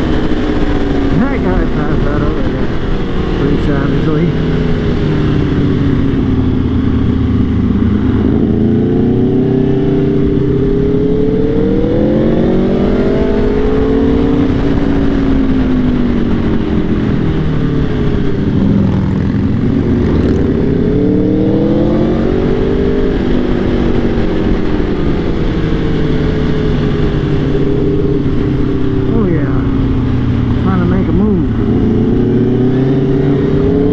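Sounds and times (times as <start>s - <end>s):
motorcycle engine revving: 0.0s - 33.9s
wind noise: 0.0s - 33.9s.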